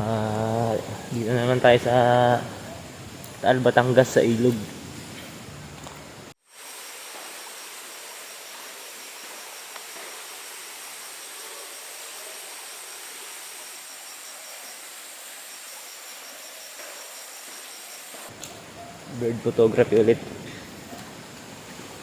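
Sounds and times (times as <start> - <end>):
insect high continuous buzz: 0.0 - 22.0
insect pulsing call: 0.0 - 22.0
outdoor hiss: 0.0 - 22.0.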